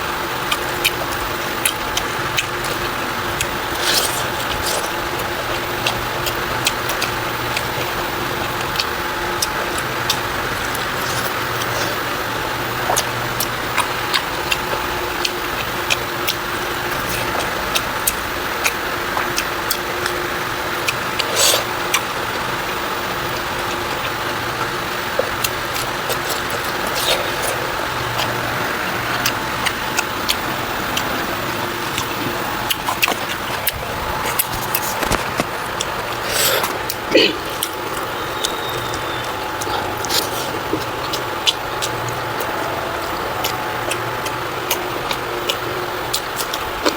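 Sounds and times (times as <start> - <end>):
chewing clicks and mouth smacks: 0.0 - 46.9
low background hum: 0.0 - 46.9.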